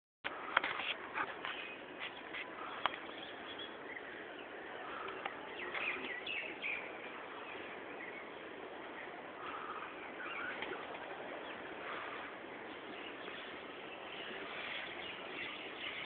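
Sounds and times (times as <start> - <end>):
birds chirping: 0.3 - 16.0
steady background hiss: 0.3 - 16.0.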